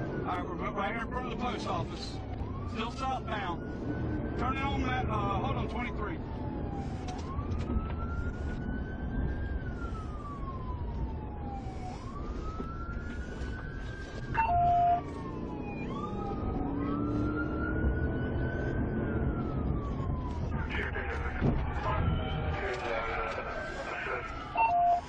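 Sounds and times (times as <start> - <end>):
car road and engine noise: 0.0 - 25.0
police siren wailing: 0.0 - 25.0.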